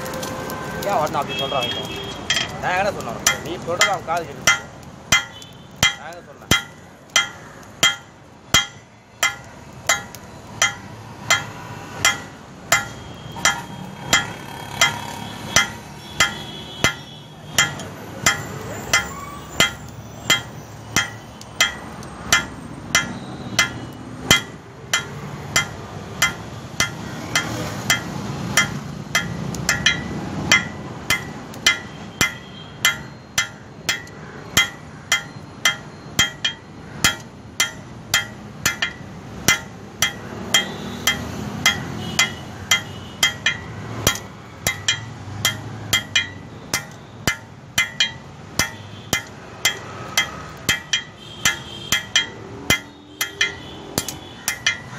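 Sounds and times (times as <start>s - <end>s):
hammer striking metal on anvil: 3.2s - 54.9s.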